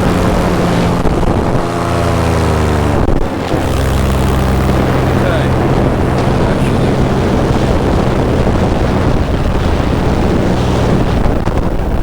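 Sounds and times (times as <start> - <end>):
paramotor engine and propeller: 0.0 - 12.0
wind rushing over microphone: 0.0 - 12.0.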